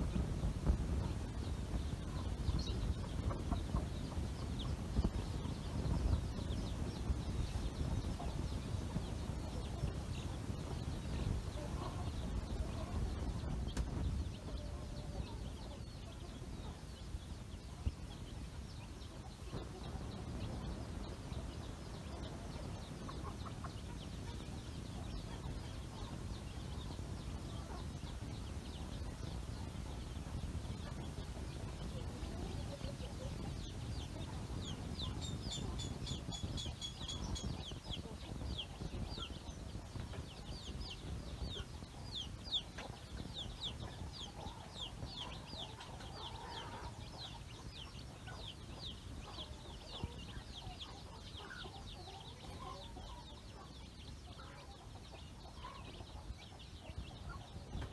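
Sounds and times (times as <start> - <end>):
chicks peeping: 0.0 - 57.9
hen clucking: 0.0 - 57.9.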